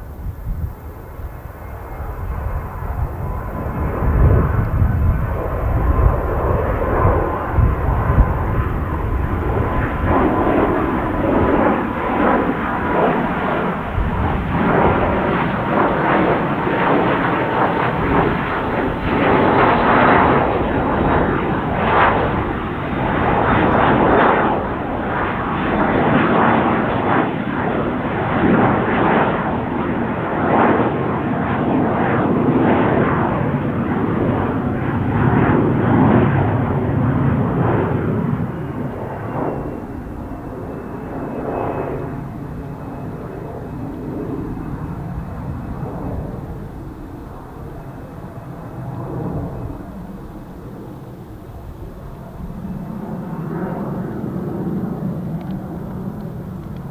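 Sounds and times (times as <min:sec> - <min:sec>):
faint jet whine: 0:00.0 - 0:56.9
jet passing overhead: 0:00.0 - 0:56.9.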